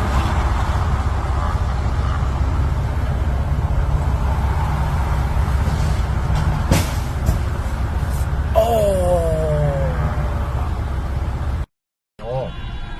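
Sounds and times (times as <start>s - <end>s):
road noise: 0.0s - 12.9s
vehicle engine drone: 0.0s - 12.9s.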